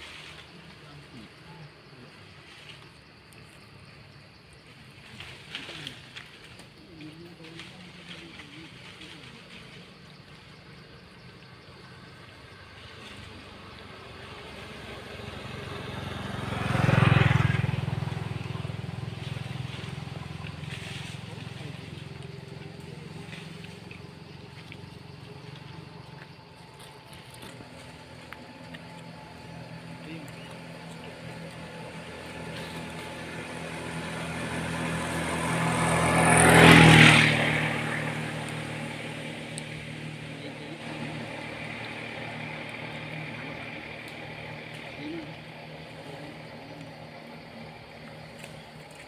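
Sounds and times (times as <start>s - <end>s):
vehicle engine passing by: 0.0s - 49.0s.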